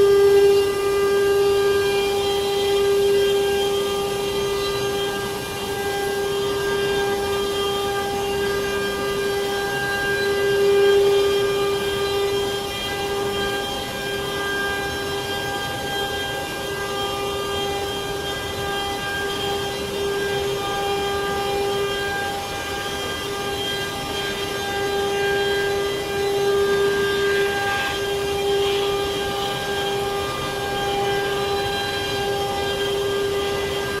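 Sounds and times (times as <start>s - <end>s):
router spindle whining: 0.0s - 34.0s.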